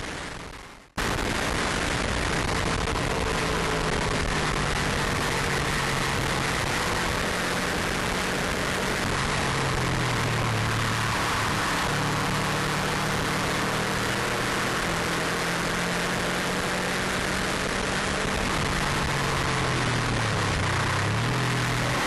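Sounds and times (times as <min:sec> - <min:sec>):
wind and road rush: 0:00.0 - 0:22.0
car engine pulling: 0:01.0 - 0:22.0.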